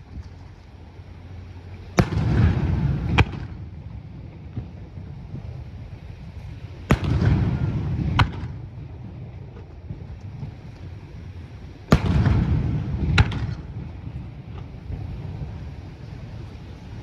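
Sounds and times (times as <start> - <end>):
low rolling rumble: 0.0 - 17.0.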